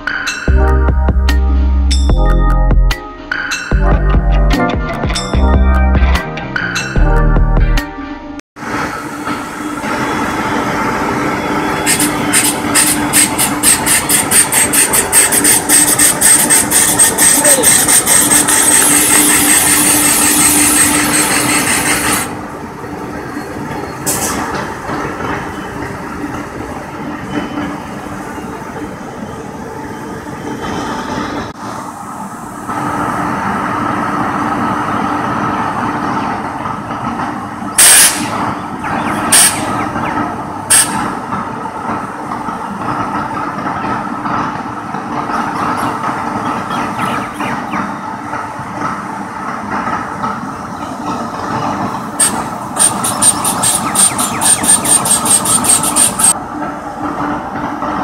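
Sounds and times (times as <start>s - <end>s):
machinery hum: 8.1s - 27.0s, 28.0s - 58.0s
electric locomotive running: 8.6s - 58.0s.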